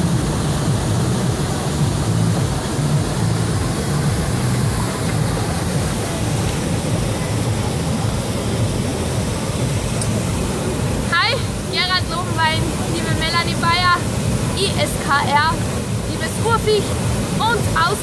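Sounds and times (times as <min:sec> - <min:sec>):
water roaring over a weir: 0:00.0 - 0:18.0.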